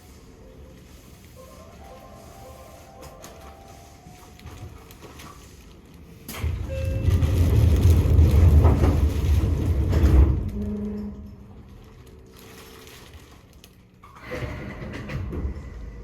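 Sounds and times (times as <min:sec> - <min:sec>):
electric train rumble: 0:00.0 - 0:12.5, 0:13.9 - 0:16.0.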